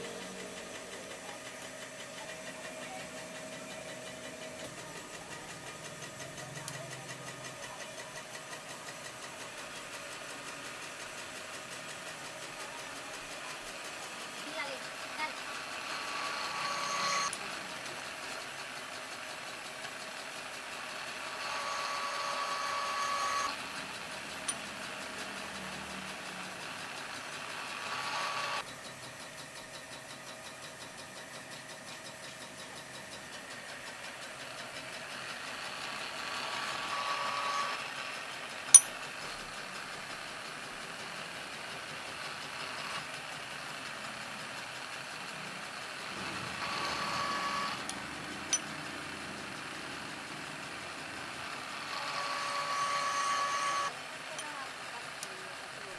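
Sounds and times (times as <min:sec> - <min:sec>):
whining mechanical running noise: 0:00.0 - 0:55.9.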